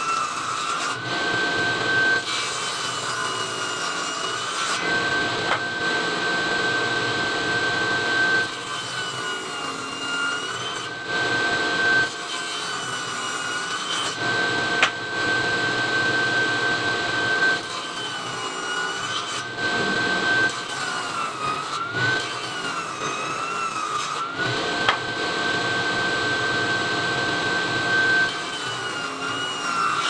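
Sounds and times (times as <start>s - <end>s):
circular saw cutting wood: 0.0s - 30.0s.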